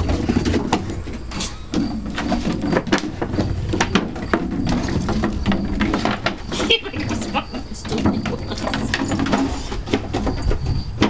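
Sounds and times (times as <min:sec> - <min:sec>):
plastic toys clattering on deck: 0:00.0 - 0:11.0.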